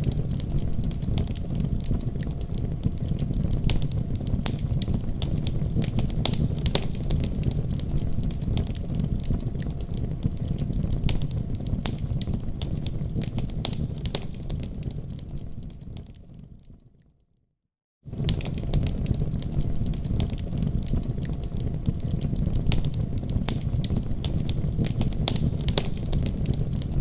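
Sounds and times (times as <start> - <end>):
fire flames rumbling: 0.0 - 16.8, 18.1 - 27.0
wood fire crackling and popping: 0.0 - 17.0, 18.1 - 27.0.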